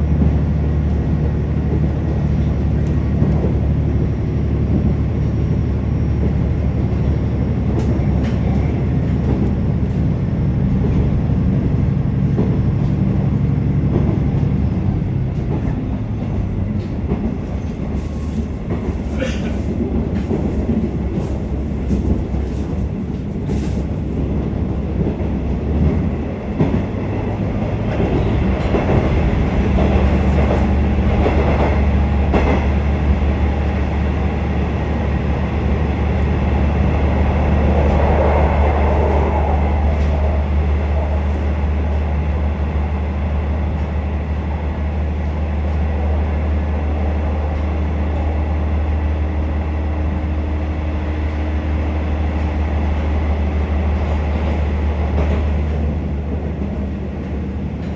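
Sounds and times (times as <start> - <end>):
wheel and rail noise: 0.1 - 57.9.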